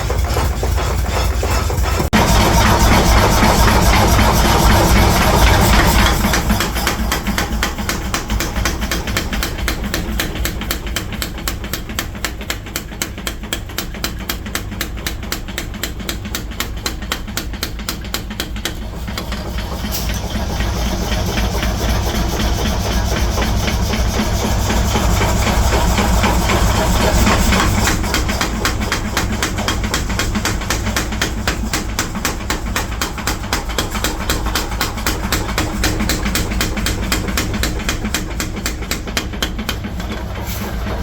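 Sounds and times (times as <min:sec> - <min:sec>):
forging hammer striking steel: 0:00.0 - 0:41.0
low machine hum: 0:00.0 - 0:41.0.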